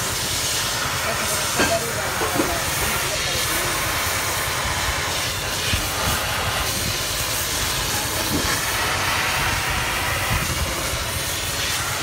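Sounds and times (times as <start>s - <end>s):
cutting torch hissing: 0.0s - 12.0s.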